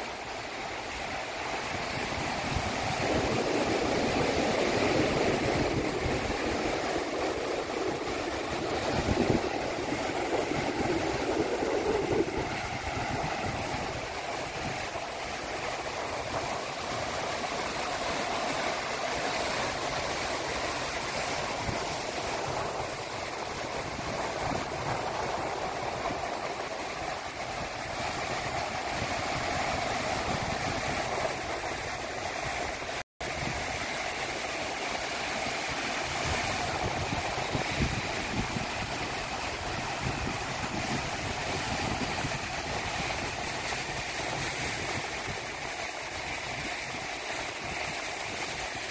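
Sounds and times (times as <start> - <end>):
sea waves washing in: 0.0 - 48.9
steady wind: 0.0 - 48.9.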